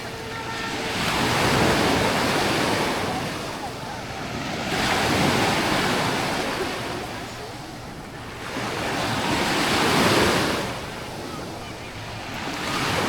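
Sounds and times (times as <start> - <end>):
small waves breaking on shore: 0.0 - 13.0.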